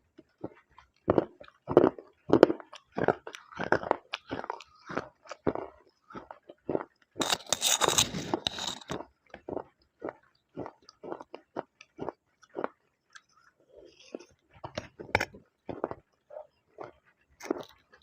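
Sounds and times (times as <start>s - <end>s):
crunchy chewing: 0.2s - 18.0s.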